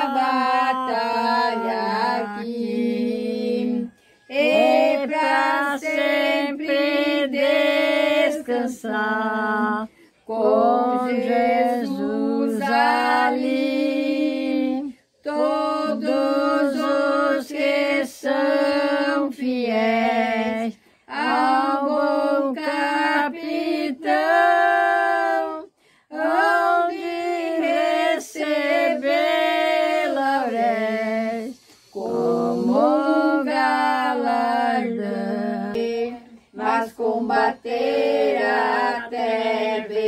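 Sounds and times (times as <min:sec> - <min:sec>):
woman singing a hymn unaccompanied: 0:00.0 - 0:40.0.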